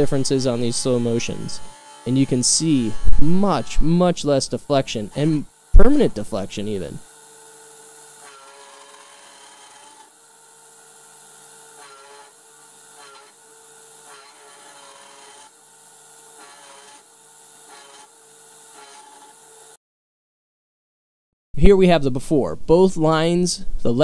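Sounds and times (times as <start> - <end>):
end mill cutting metal: 0.0 - 19.8.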